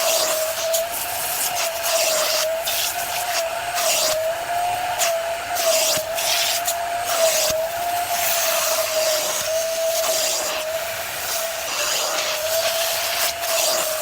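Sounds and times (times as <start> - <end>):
wet-dry vacuum cleaner running: 0.0 - 14.0.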